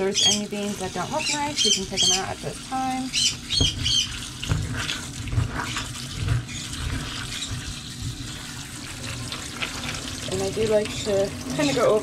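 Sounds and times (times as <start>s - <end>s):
hand stirring wet beans: 0.0s - 12.0s
tap water splashing on beans: 0.0s - 12.0s.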